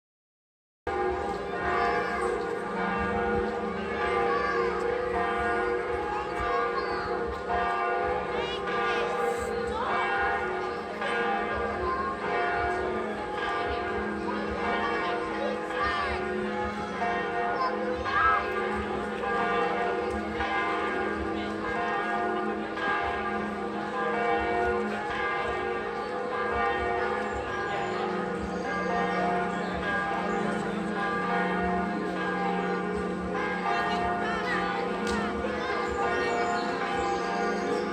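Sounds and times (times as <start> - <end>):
church bells pealing: 0.9 - 37.9.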